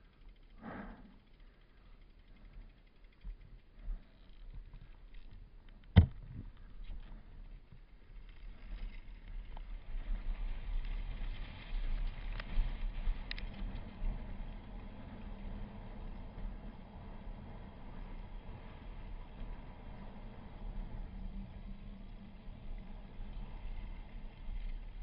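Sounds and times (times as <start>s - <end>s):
bike tyres and frame rattling: 0.0s - 25.0s.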